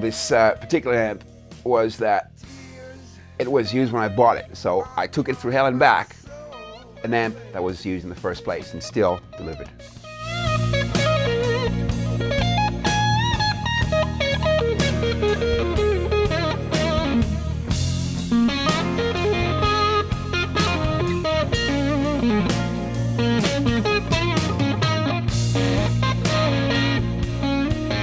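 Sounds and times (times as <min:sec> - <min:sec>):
bass line: 0:00.0 - 0:28.0
electric guitar blues lead: 0:00.0 - 0:28.0.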